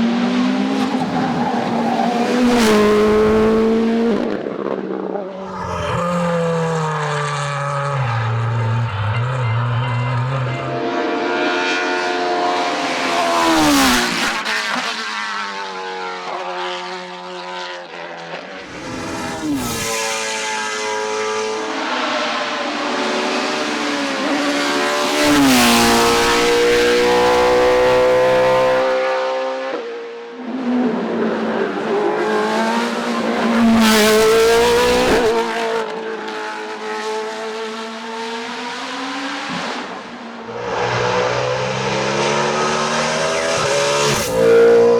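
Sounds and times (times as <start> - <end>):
race car engines accelerating: 0.0 - 44.9.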